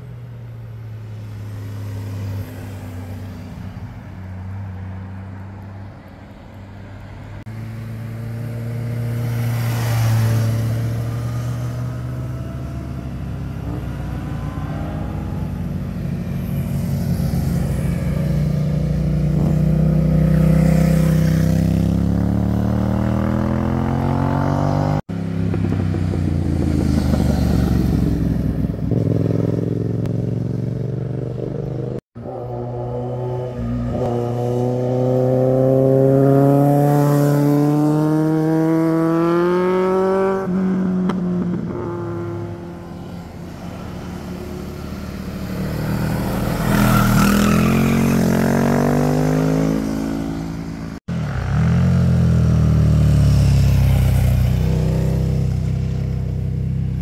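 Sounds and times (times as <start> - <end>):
motorcycle engines accelerating: 7.4 - 57.0.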